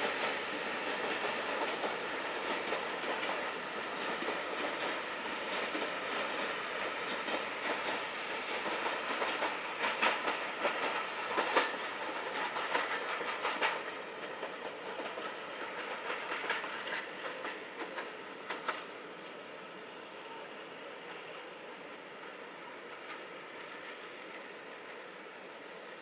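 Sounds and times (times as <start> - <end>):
train wheels clacking over rail joints: 0.0 - 20.0, 22.2 - 25.1
train wagons rolling: 0.0 - 26.0.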